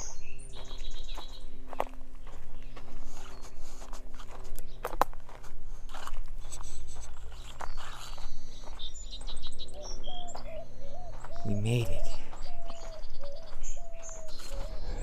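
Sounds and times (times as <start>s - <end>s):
footsteps on dirt and twigs: 0.0s - 15.0s
small birds chirping: 0.0s - 15.0s.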